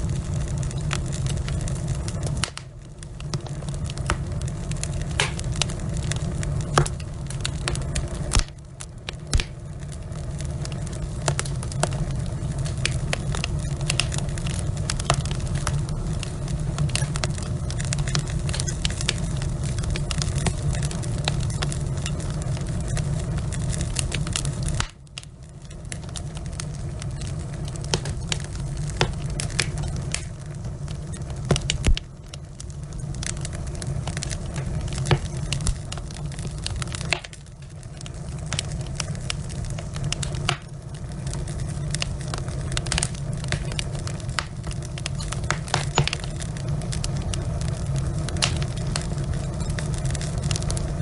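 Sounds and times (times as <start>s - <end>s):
logs crackling and popping: 0.0s - 51.0s
low rumble of flames: 0.0s - 51.0s.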